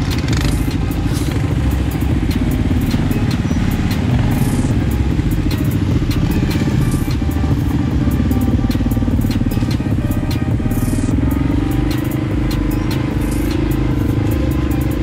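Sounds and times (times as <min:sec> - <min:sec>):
atv engines rumbling: 0:00.0 - 0:15.0.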